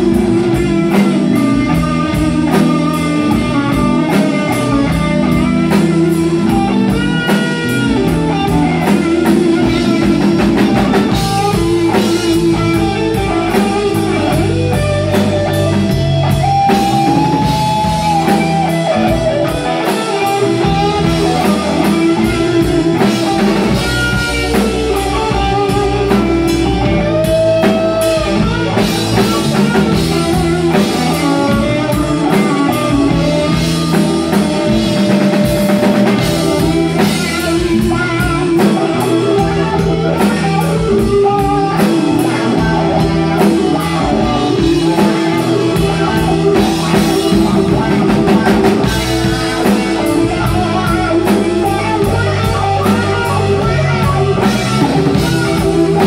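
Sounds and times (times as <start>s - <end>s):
drum kit: 0.0s - 56.0s
electric guitars: 0.0s - 56.0s
keyboard: 0.0s - 56.0s.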